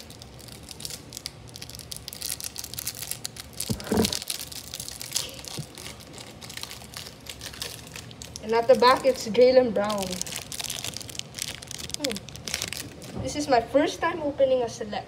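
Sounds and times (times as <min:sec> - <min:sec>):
plastic wrapper tearing and crinkling: 0:00.0 - 0:13.2.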